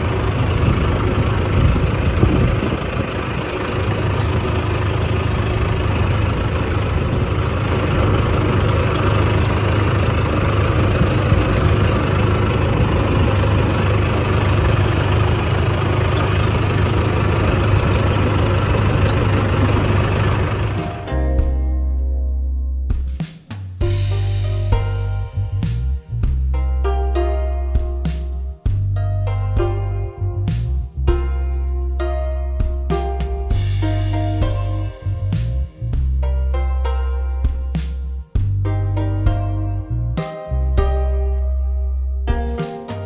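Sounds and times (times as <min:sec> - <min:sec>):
tractor diesel engine running: 0:00.0 - 0:23.2, 0:23.8 - 0:43.0.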